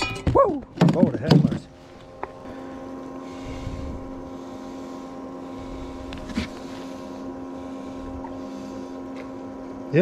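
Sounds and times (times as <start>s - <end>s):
boat motor hum: 0.0s - 10.0s.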